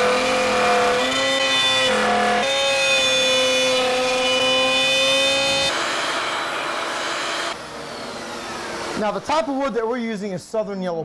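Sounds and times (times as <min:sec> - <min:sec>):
router cutting wood: 0:00.0 - 0:09.7.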